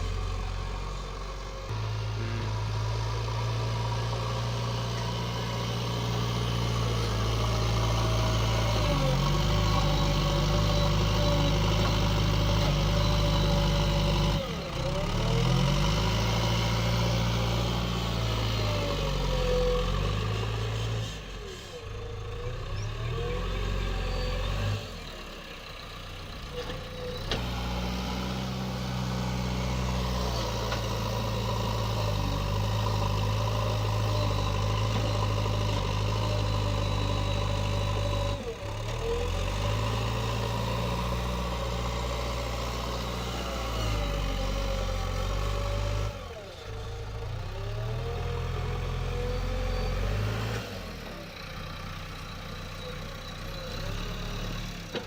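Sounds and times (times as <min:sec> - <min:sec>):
diesel engines under load: 0:00.0 - 0:55.0.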